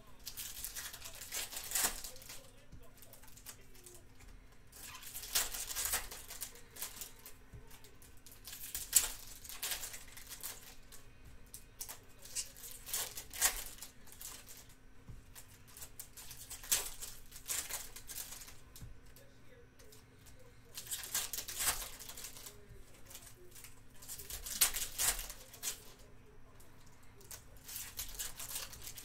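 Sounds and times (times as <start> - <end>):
card pack wrappers crinkling: 0.0 - 29.0
cards flipped through: 0.1 - 29.0.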